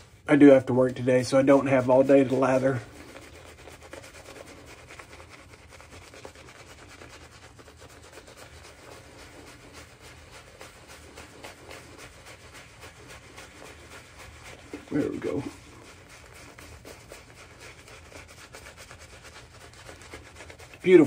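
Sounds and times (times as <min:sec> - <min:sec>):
shaving brush rubbing over stubble: 0:00.0 - 0:21.0.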